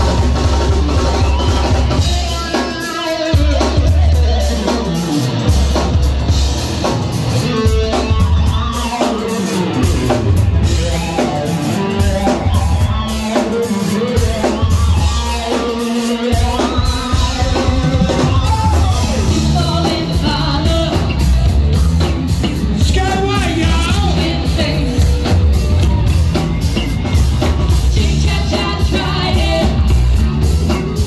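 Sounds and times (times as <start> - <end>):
drum kit: 0.0 - 31.0
heavy bass: 0.0 - 31.0.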